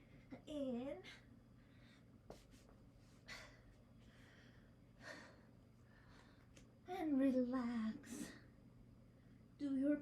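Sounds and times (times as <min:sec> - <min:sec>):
low steady room hum: 0:00.0 - 0:10.0.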